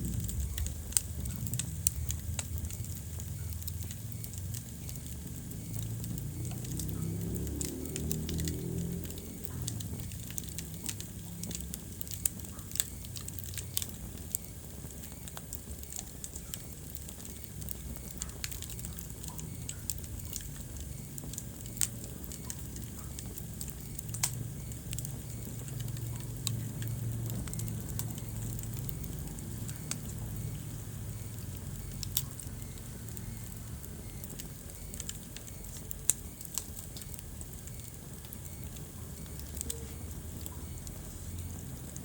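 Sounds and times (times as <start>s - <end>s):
low steady rumble: 0.0s - 42.0s
wood fire crackling: 0.0s - 42.0s.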